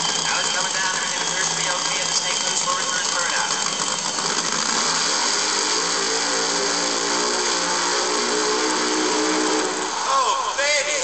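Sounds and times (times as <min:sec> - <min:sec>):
pitched hum: 0:00.0 - 0:10.6
toy car engine sound effect: 0:00.0 - 0:11.0.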